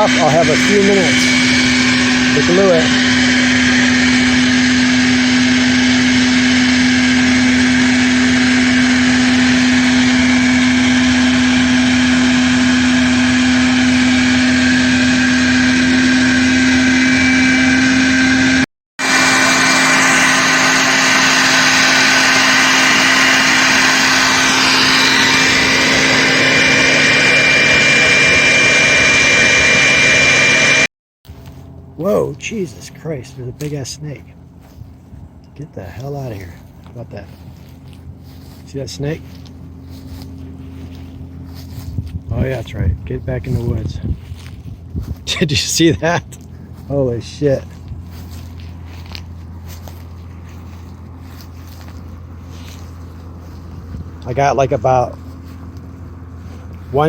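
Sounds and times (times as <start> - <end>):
motor-driven blower humming: 0.0 - 57.0.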